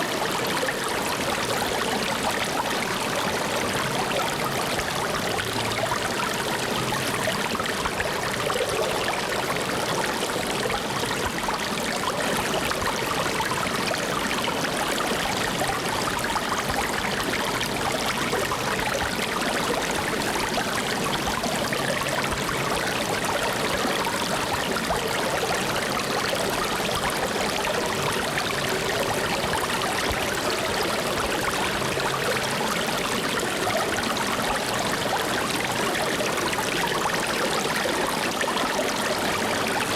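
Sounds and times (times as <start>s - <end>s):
flowing stream water: 0.0s - 39.9s.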